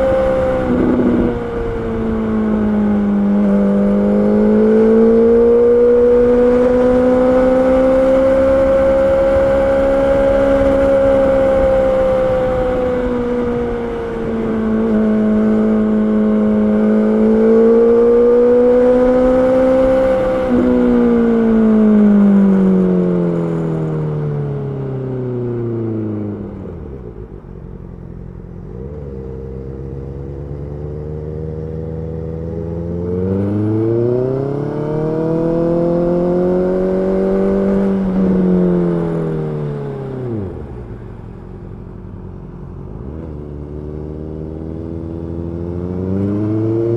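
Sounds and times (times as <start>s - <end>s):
motorcycle engine running: 0.0s - 24.8s, 25.4s - 46.9s.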